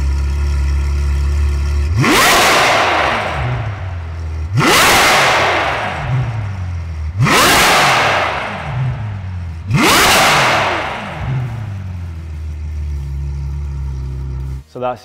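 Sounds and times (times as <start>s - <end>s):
car engine revving: 0.0s - 14.7s
car engine idling: 0.0s - 15.0s.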